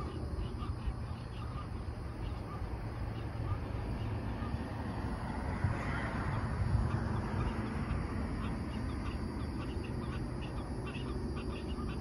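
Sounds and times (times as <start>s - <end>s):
low wind rumble: 0.0s - 12.0s
waterbirds calling: 0.0s - 12.0s.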